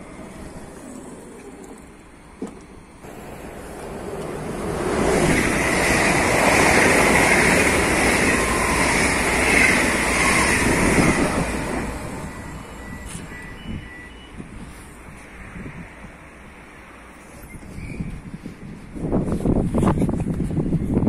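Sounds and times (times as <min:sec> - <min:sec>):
train rolling on rails: 0:00.0 - 0:21.0.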